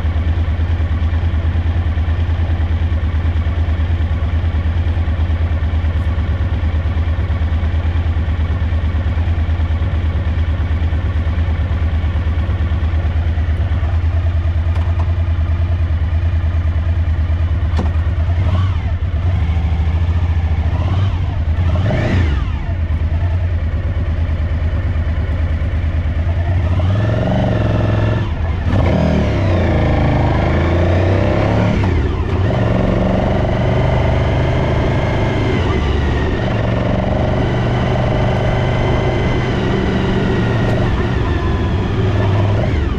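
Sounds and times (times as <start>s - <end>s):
motorcycle engine idling and revving: 0.0s - 42.9s.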